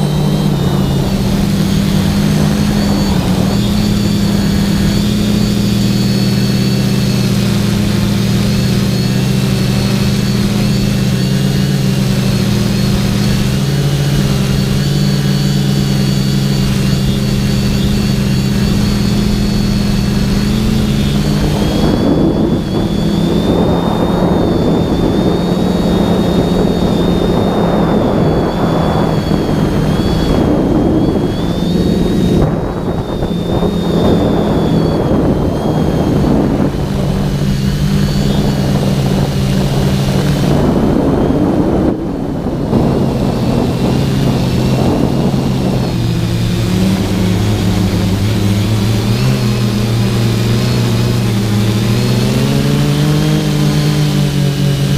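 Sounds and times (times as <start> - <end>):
drone motors whining: 0.0 - 54.9
gusty air rush: 0.0 - 54.9.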